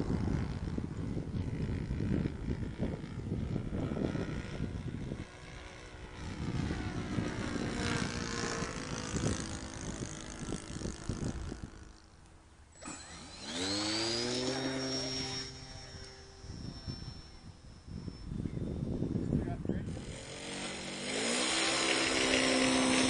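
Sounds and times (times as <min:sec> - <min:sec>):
wind rumble on microphone: 0:00.0 - 0:12.1, 0:13.4 - 0:23.0
model airplane motor passing: 0:00.0 - 0:23.0.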